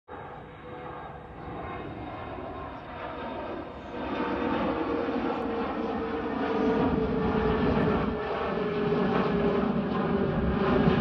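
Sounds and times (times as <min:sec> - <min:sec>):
faint steady engine whine: 0:00.1 - 0:11.0
jet engines rushing drone: 0:00.1 - 0:11.0.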